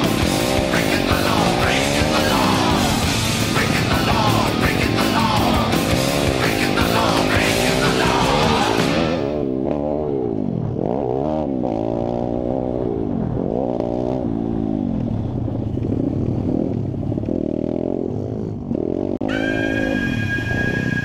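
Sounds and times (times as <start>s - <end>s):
pit bike engines revving: 0.0s - 21.0s.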